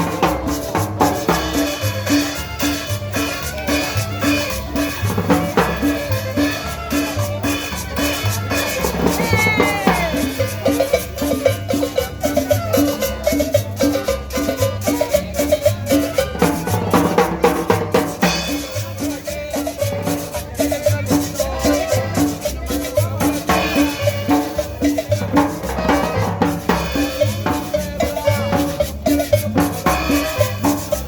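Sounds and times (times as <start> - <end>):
latin dance music: 0.0 - 31.0.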